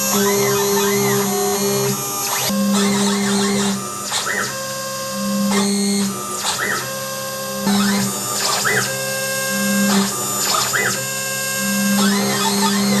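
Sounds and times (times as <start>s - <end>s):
router spindle whine: 0.0s - 13.0s
stepper motors humming and chirping: 0.0s - 13.0s.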